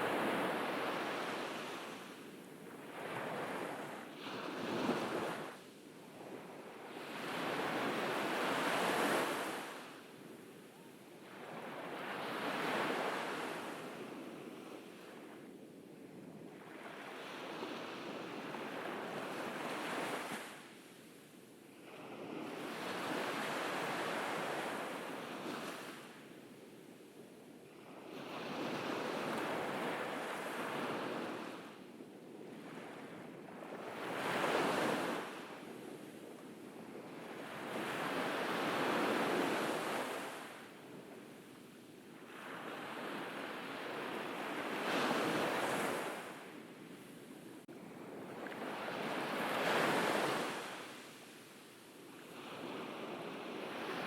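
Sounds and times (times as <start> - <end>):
ocean waves breaking on beach: 0.0 - 15.6, 16.4 - 54.0.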